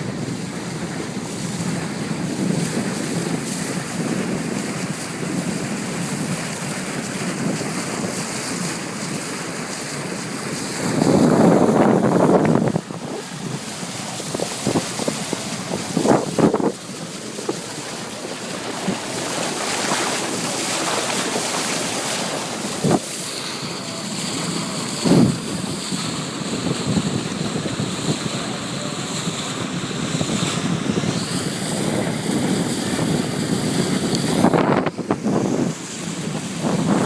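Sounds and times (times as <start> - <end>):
water rushing along hull: 0.0 - 37.0
wind buffeting microphone: 0.0 - 37.0.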